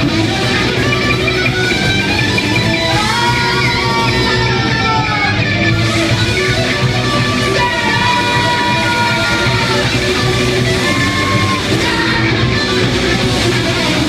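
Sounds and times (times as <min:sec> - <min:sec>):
heavy metal band playing live: 0:00.0 - 0:14.0.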